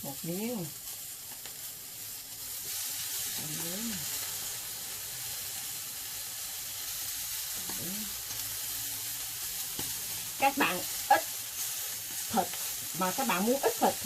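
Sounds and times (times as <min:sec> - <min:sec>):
shrimp and pork sizzling in pan: 0:00.0 - 0:14.0.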